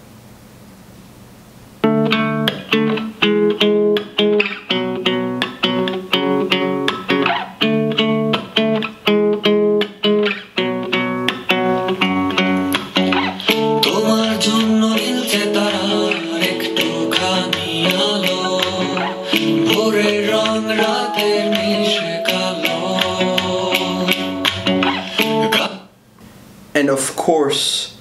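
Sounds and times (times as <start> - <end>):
guitar music through speaker: 1.8 - 25.8.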